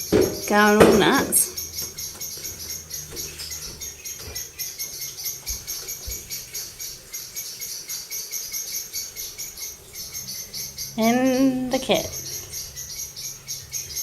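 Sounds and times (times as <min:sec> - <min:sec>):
rapid high-pitched chirping: 0:00.0 - 0:14.0.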